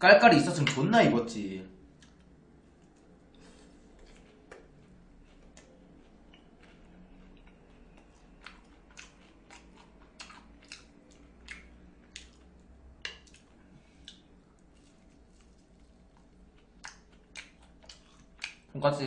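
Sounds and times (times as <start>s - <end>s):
low steady hum: 0.0s - 19.0s
crunchy chewing: 1.9s - 18.8s.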